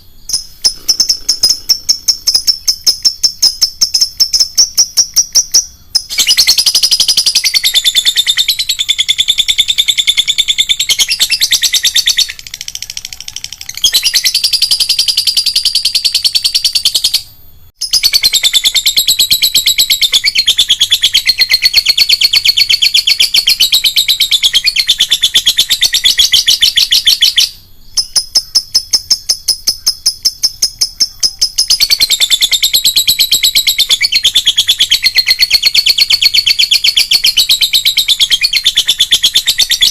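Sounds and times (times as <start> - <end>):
lovebird shrill chattering trill: 0.0 - 17.2, 17.8 - 39.9.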